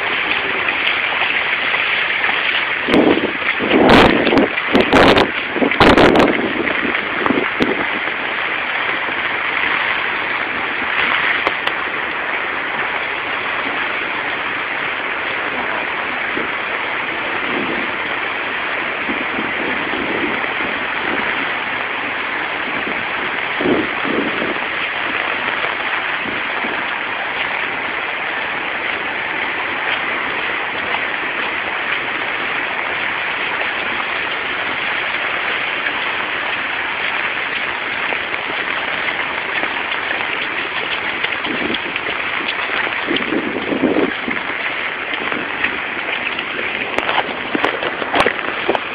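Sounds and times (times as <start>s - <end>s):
heavy rain on flooded street: 0.0s - 48.9s.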